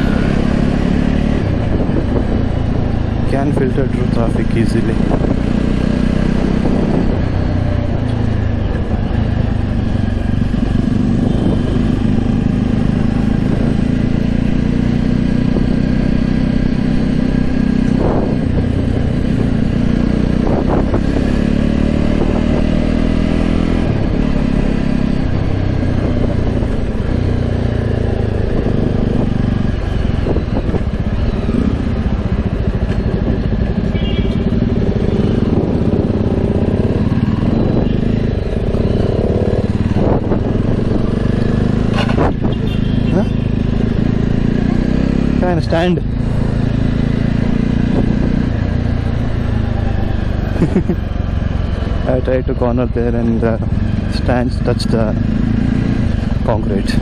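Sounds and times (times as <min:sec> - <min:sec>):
motorcycle engine and exhaust: 0:00.0 - 0:57.0.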